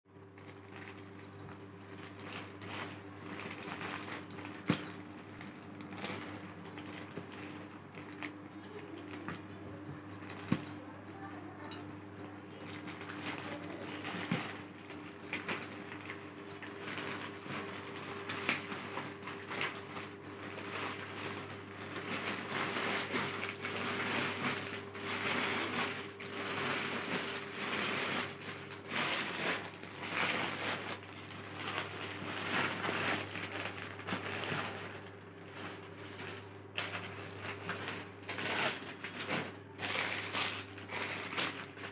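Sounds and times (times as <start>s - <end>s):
plastic bag rustling and crinkling: 0.3s - 41.9s.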